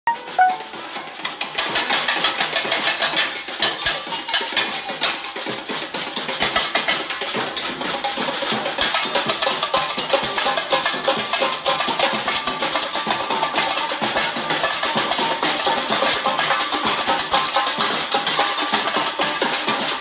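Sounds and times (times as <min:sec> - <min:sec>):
high bright percussion: 0:00.0 - 0:20.0
driving drum rhythm: 0:00.1 - 0:20.0.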